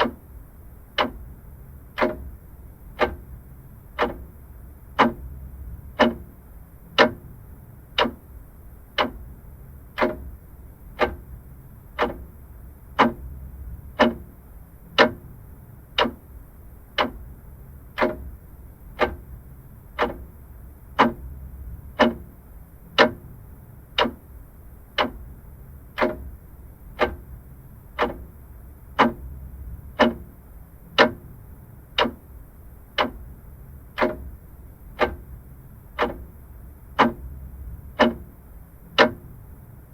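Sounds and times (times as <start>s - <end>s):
clock ticking: 0.0s - 1.3s, 1.9s - 7.3s, 7.9s - 9.3s, 9.9s - 15.3s, 16.0s - 39.5s.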